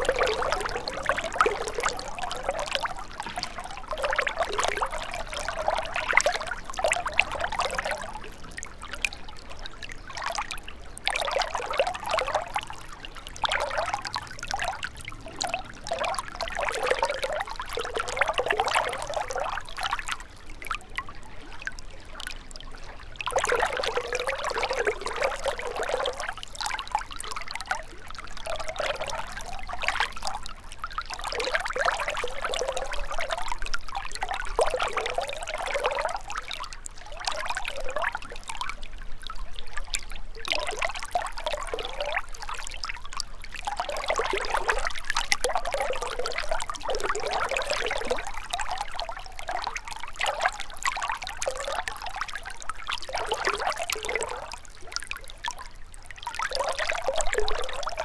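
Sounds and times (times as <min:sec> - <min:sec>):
stream splashing over stones: 0:00.0 - 0:20.2, 0:23.2 - 0:58.0.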